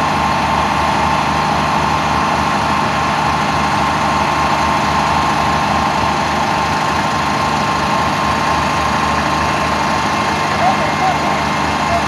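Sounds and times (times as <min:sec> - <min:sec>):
fire truck engines idling: 0:00.0 - 0:12.0.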